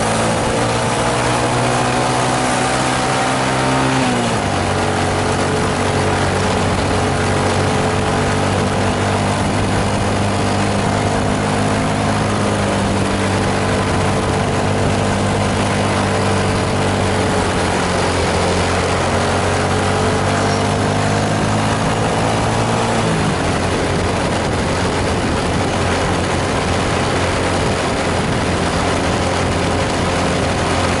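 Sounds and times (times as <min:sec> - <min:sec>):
bus diesel engine labouring: 0:00.0 - 0:31.0.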